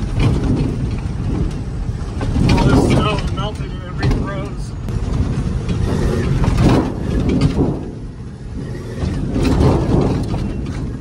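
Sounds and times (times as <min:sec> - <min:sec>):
cab rattle: 0:00.0 - 0:11.0
diesel engine running: 0:00.0 - 0:11.0
road noise: 0:00.0 - 0:11.0.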